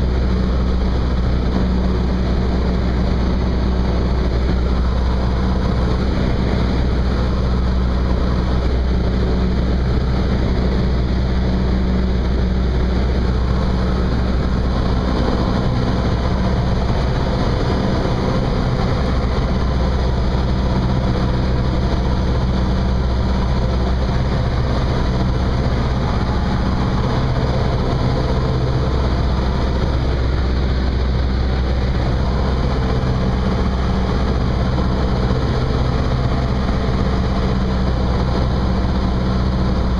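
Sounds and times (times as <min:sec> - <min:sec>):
propeller airplane engine drone: 0:00.0 - 0:39.9.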